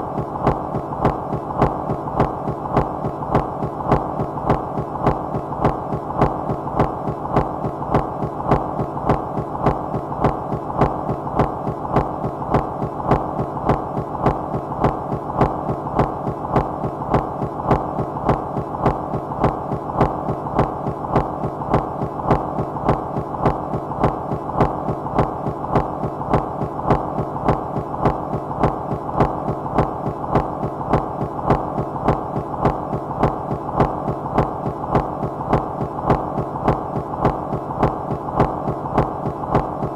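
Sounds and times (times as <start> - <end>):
throbbing filtered noise: 0.0 - 39.9.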